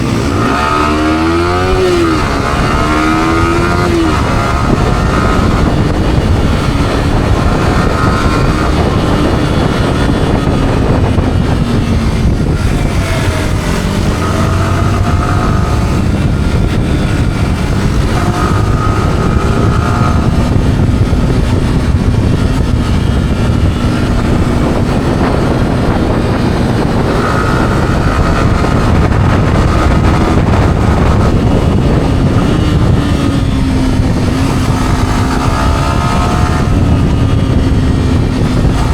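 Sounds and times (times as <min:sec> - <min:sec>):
motorcycle engine revving: 0:00.0 - 0:38.9
wind rush on microphone: 0:00.0 - 0:38.9.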